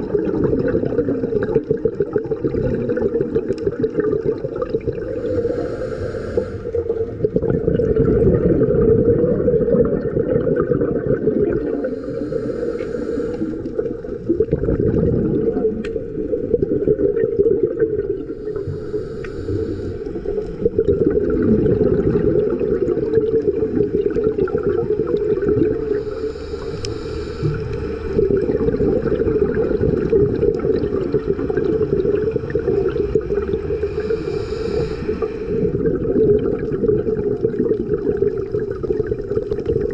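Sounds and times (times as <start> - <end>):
muffled underwater water rush: 0.0 - 39.9
regulator bubbling hiss: 0.0 - 39.9.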